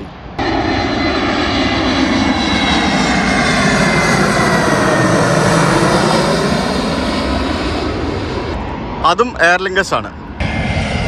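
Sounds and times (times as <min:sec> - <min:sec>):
jet airliner roaring overhead: 0:00.0 - 0:11.0.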